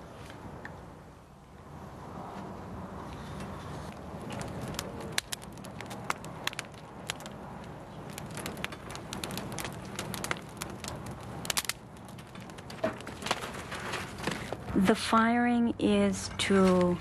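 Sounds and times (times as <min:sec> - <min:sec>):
open fire crackling: 0:00.0 - 0:17.0.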